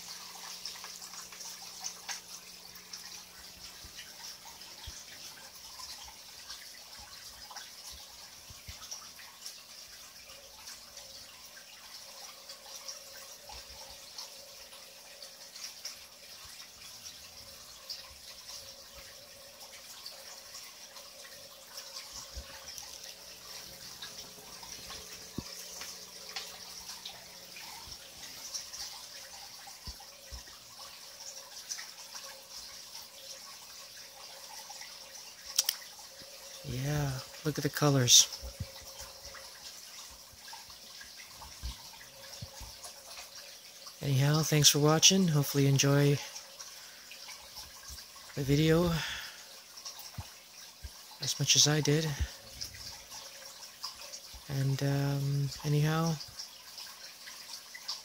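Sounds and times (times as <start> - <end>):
small water drips: 0.0 - 58.0
water trickling and splashing: 0.0 - 58.0.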